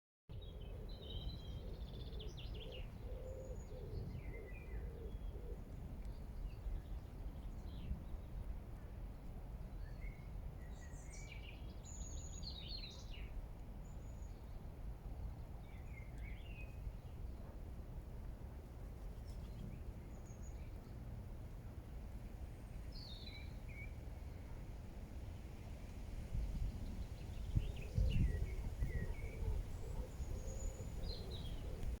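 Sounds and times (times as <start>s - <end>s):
songbirds chirping and trilling: 0.3s - 32.0s.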